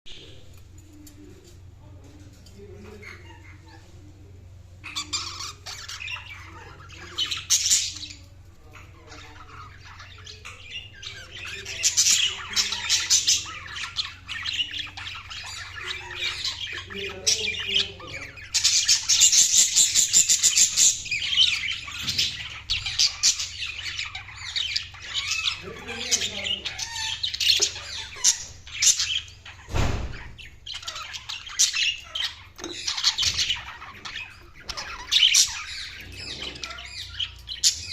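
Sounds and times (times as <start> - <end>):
budgerigars chirping: 2.6 - 4.1, 4.8 - 37.9.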